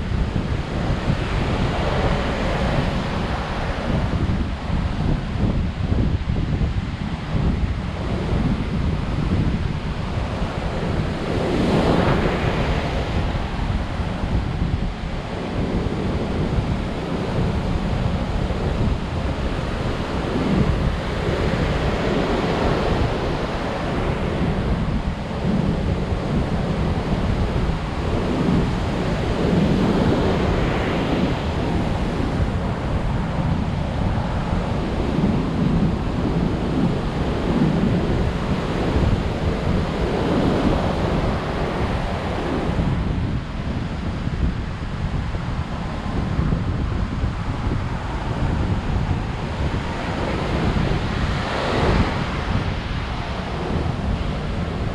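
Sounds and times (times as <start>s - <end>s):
wind rumbling on microphone: 0.0s - 54.9s
surf breaking on beach: 7.0s - 54.9s.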